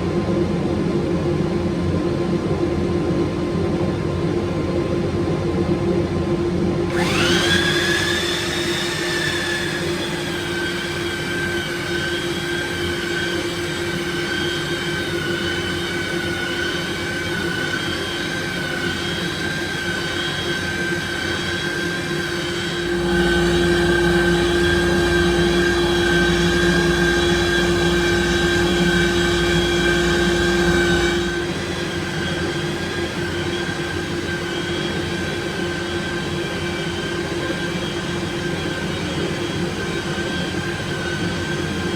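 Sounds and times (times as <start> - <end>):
belt sander whining: 6.9 - 41.9.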